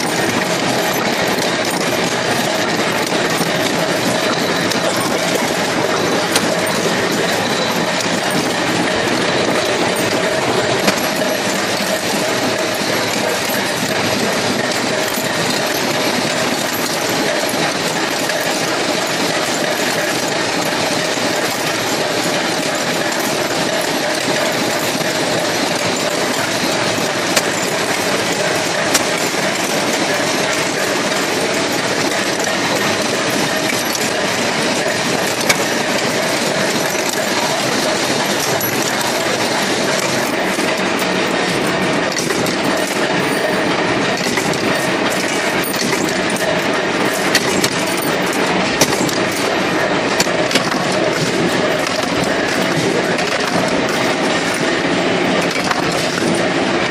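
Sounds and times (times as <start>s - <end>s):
machine hum: 0.0s - 56.9s
metallic machine clatter: 0.0s - 56.9s.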